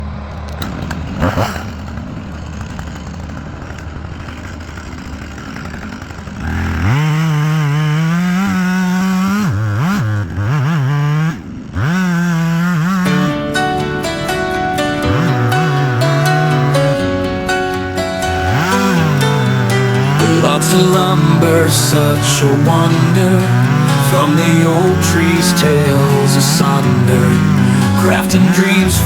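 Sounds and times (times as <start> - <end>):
chainsaw idling and revving: 0.0 - 29.0.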